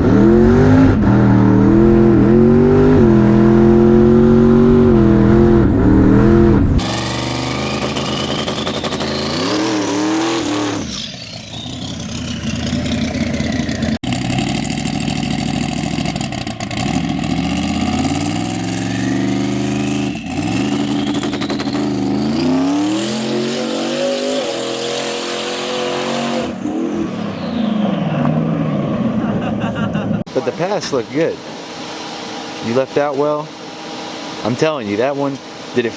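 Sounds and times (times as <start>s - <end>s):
drag car engine accelerating: 0.0s - 35.9s.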